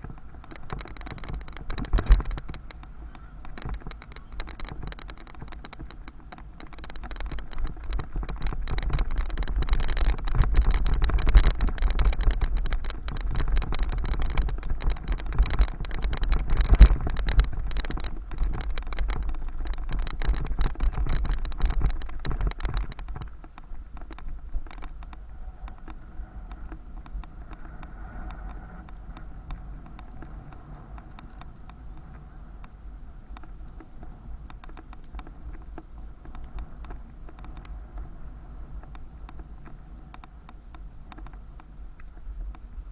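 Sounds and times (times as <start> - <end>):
bicycle rattling clicks: 0.0 - 42.9
wind rumble on microphone: 0.0 - 42.9.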